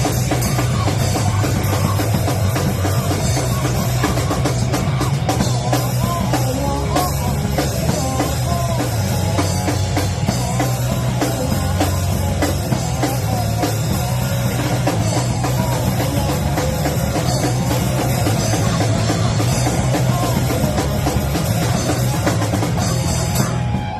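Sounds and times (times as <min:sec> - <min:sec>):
drum kit pounding: 0:00.0 - 0:23.9
live rock band playing: 0:00.0 - 0:23.9.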